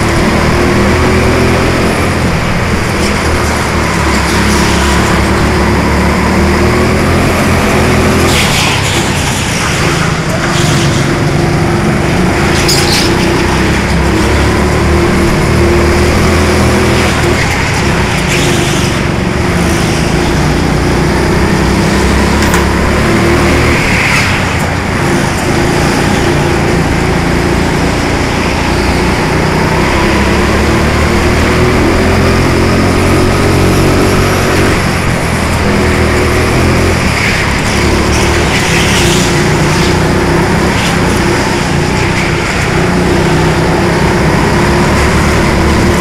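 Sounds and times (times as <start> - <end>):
go-kart engine revving: 0.0 - 46.0.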